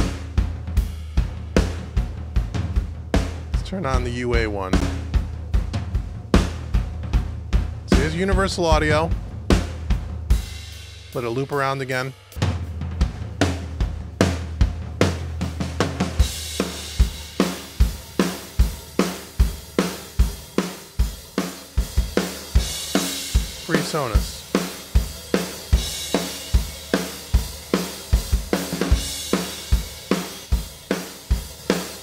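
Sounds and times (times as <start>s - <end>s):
drum kit playing a steady beat: 0.0s - 32.0s.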